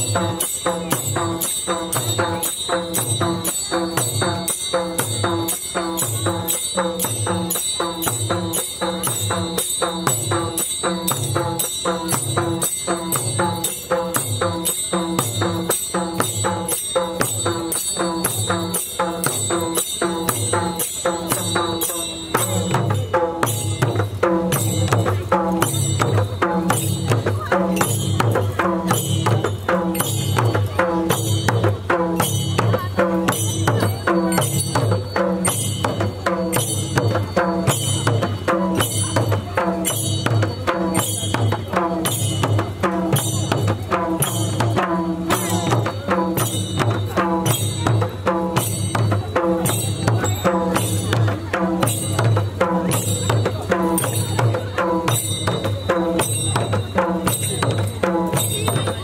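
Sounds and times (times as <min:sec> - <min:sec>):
drum beat: 0:00.0 - 0:59.0
jingling metal percussion: 0:00.0 - 0:59.0.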